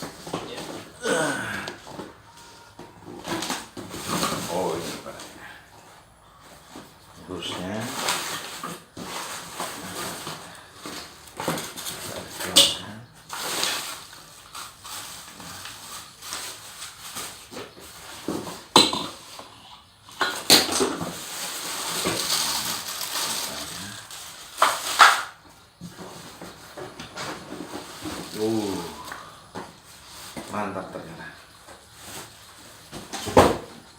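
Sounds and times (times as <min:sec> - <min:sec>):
plastic and cardboard rustling: 0:00.0 - 0:33.9.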